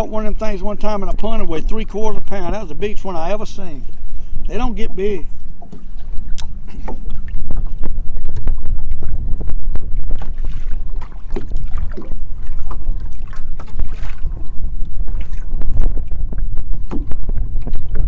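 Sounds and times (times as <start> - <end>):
water slapping boat hull: 0.0 - 18.0
wind buffeting microphone: 0.0 - 18.0.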